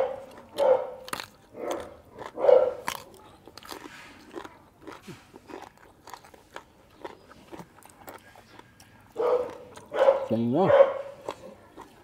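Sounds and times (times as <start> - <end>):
chewing crisp raw vegetables: 0.0 - 12.0.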